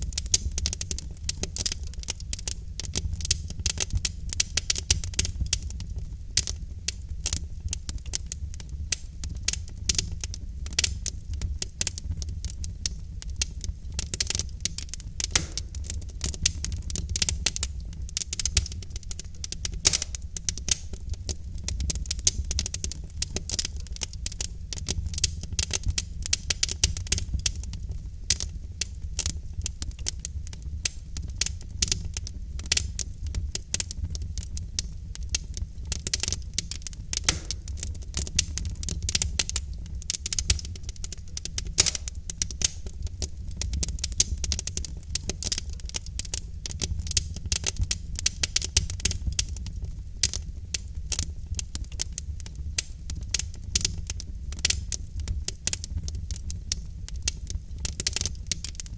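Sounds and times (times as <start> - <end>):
burning logs popping and snapping: 0.0 - 58.9
low rumble of flames: 0.0 - 58.9.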